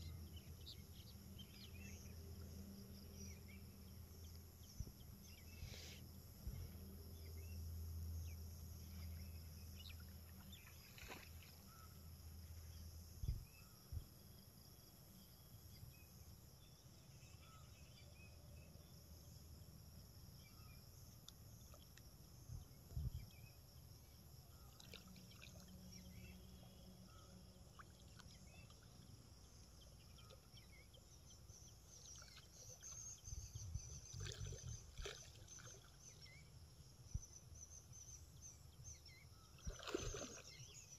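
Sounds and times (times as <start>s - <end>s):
faint bird or insect chirps: 0.0s - 40.9s.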